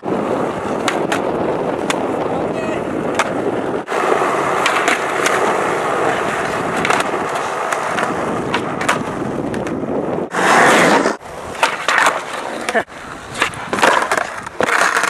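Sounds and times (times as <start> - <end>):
skateboard clacking: 0.0 - 15.0
skateboard wheels rolling on concrete: 0.0 - 15.0.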